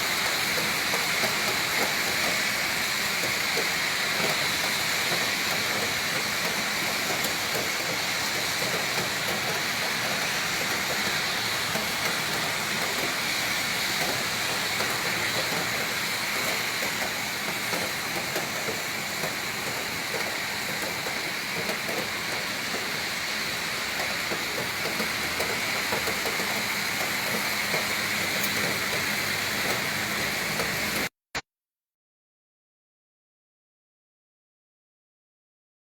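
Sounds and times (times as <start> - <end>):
heavy rain pouring: 0.0 - 31.1.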